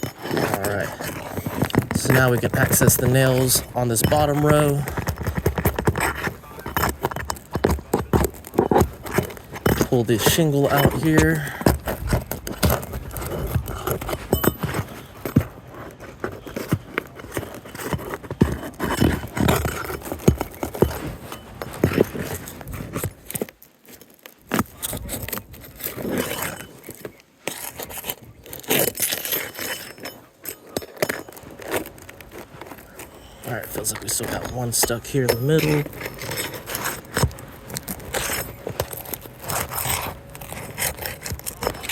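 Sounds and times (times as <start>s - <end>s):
roof shingles scraping: 0.0s - 41.9s.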